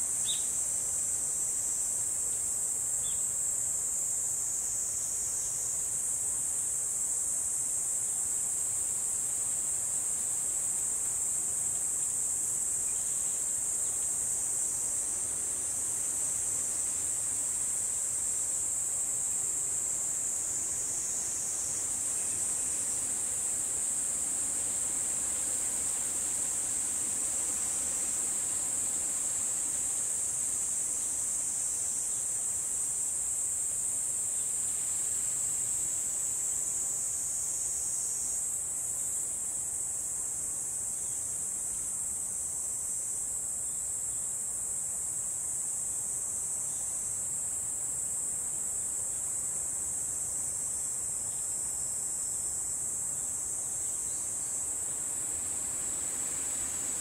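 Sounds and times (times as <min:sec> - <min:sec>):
insects droning high-pitched: 0:00.0 - 0:57.0.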